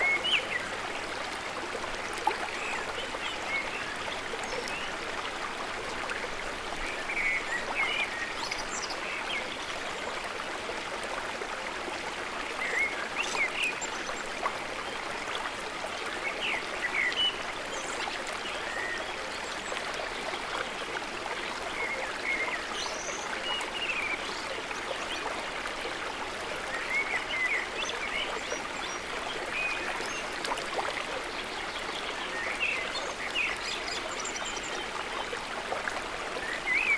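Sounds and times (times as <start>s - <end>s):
flowing water: 0.0s - 36.9s.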